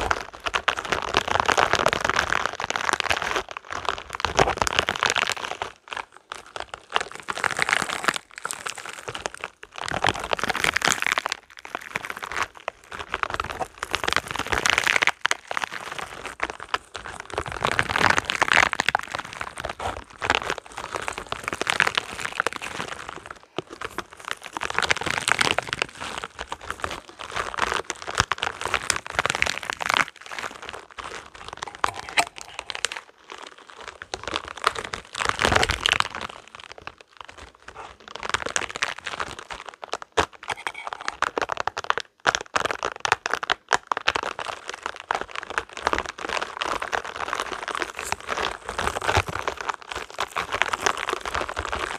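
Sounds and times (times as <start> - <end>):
rubber balls squeezed crackling: 0.0 - 51.9.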